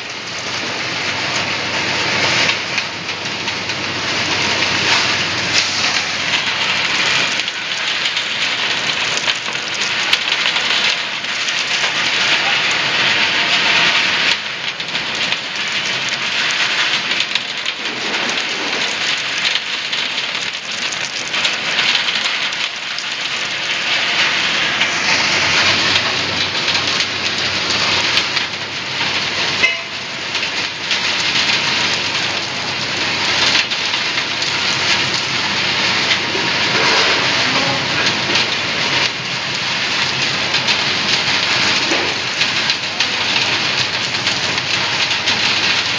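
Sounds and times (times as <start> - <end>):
water and gravel rushing through machine: 0.0 - 45.9.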